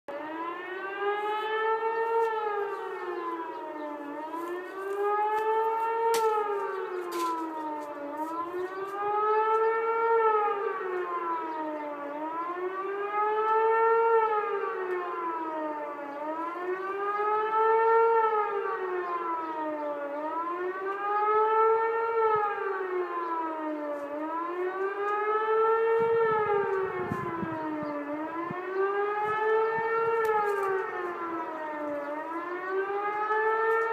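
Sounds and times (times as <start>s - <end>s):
siren wailing: 0.1s - 33.9s.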